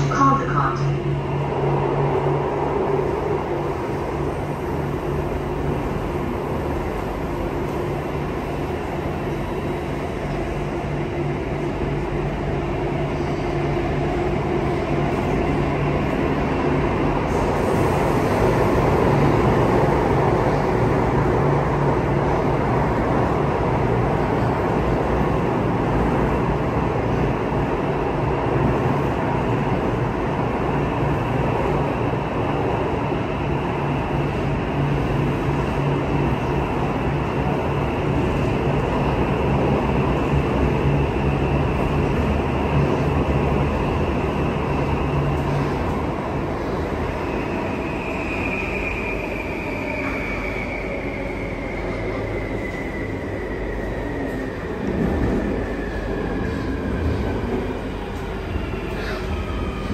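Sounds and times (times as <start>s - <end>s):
metro train rumbling in tunnel: 0.0s - 59.9s.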